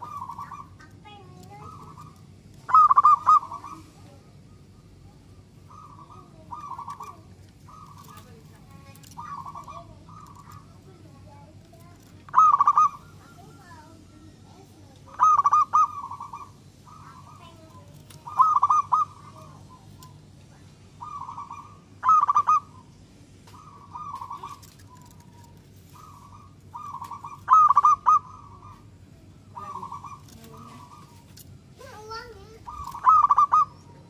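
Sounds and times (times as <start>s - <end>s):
dove cooing: 0.0s - 34.0s.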